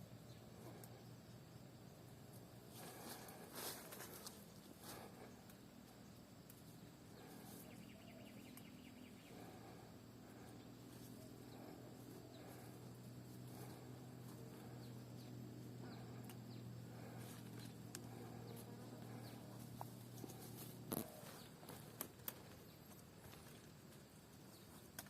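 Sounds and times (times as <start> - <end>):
faint ticks and rustles: 0.3 - 25.0.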